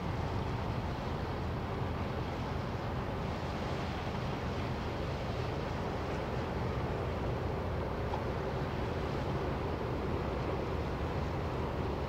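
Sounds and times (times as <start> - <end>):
ship engine low rumble: 0.0 - 12.0
water rushing from bow wave: 0.0 - 12.0.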